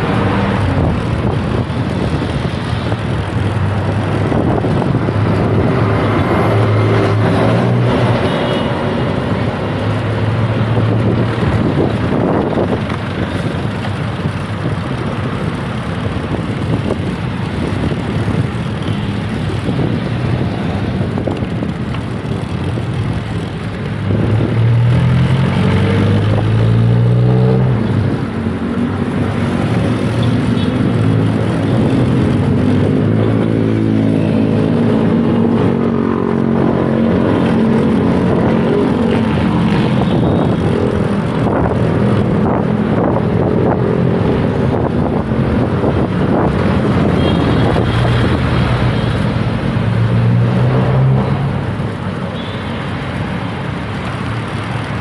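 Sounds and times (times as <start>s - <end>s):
motor vehicles passing: 0.0s - 55.0s
wind and road noise: 0.0s - 55.0s.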